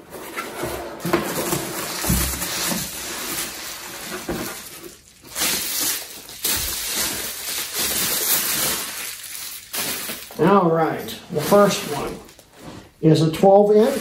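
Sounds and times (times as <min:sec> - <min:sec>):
packing paper rustling: 0:00.0 - 0:14.0
bubble wrap crinkling: 0:01.0 - 0:14.0.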